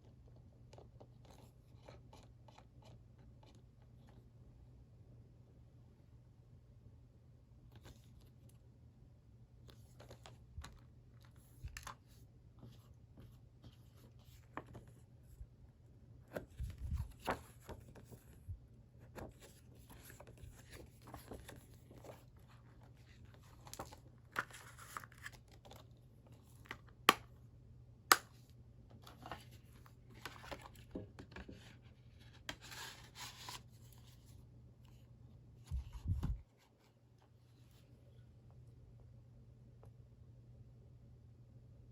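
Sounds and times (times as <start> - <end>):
faint low hum: 0.0 - 41.9.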